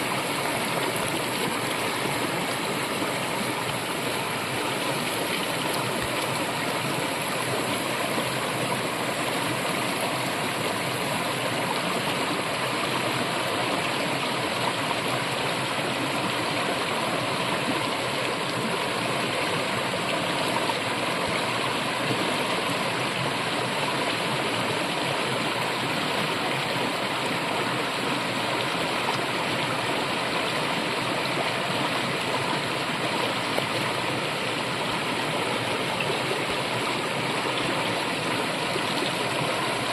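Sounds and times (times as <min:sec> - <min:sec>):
brook flowing: 0:00.0 - 0:39.9.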